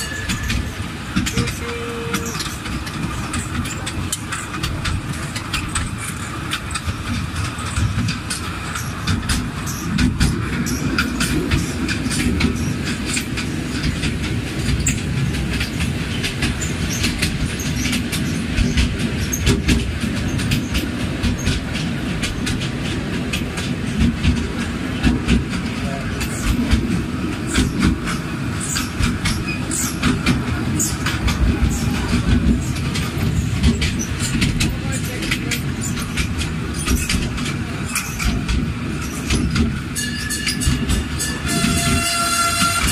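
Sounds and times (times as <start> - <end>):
train carriage rumbling: 0.0 - 42.9.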